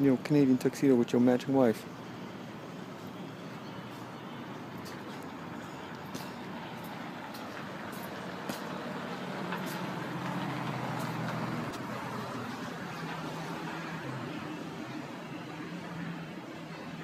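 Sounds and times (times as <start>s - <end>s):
street traffic: 0.0s - 17.0s
motor vehicle engine hum: 1.9s - 17.0s.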